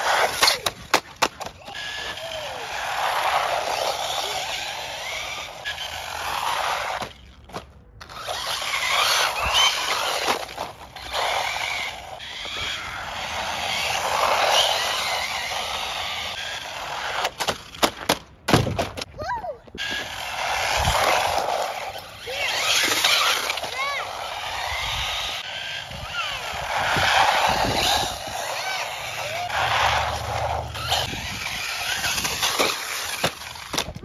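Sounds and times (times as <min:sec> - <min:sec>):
rc truck tyres and drivetrain rushing: 0:00.0 - 0:34.0.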